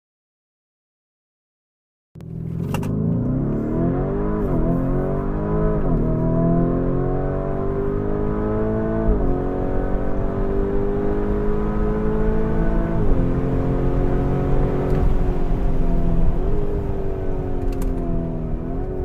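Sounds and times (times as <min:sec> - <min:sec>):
sports car engine accelerating: 0:02.2 - 0:19.0.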